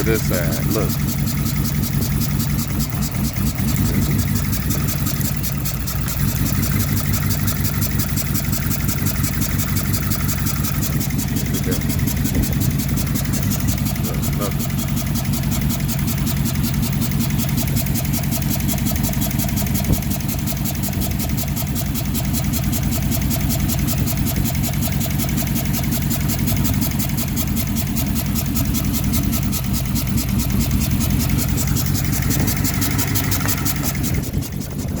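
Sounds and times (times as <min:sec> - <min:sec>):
car engine idling roughly: 0:00.0 - 0:35.0
fast even ticking: 0:00.0 - 0:35.0.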